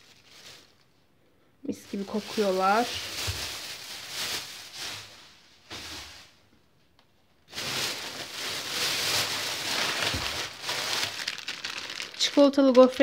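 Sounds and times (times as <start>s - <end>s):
plastic bags rustling: 0.0s - 1.0s, 1.7s - 6.5s, 7.5s - 13.0s.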